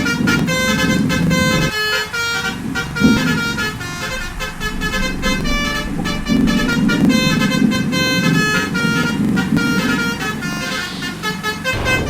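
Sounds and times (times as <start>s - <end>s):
musical horn tune: 0.0s - 12.0s
vehicle engine running: 0.0s - 12.0s.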